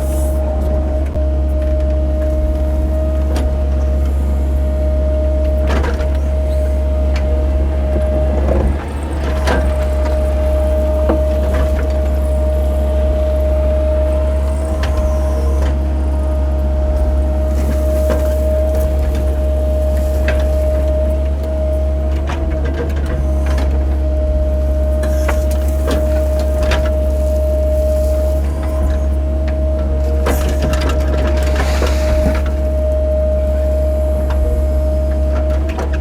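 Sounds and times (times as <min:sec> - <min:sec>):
constant high whine: 0:00.0 - 0:36.0
excavator diesel engine running: 0:00.0 - 0:36.0.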